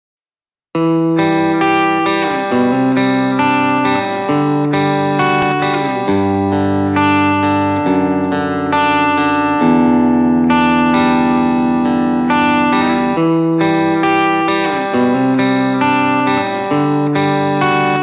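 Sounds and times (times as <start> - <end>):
guitar through effects: 0.7 - 18.0.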